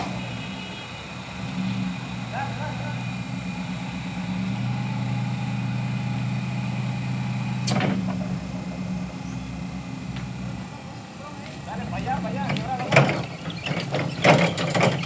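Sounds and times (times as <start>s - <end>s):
electric motor hum: 0.0s - 13.4s.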